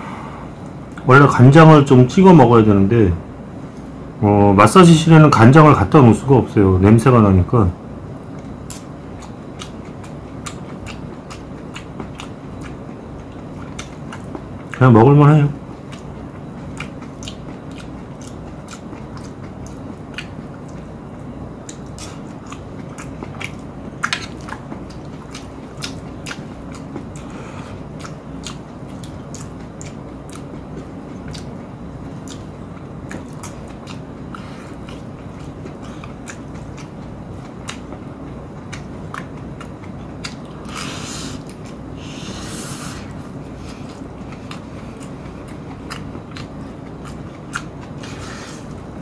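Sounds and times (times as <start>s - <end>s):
steady low hum: 0.0s - 49.0s
man chewing: 8.3s - 14.8s, 15.5s - 49.0s.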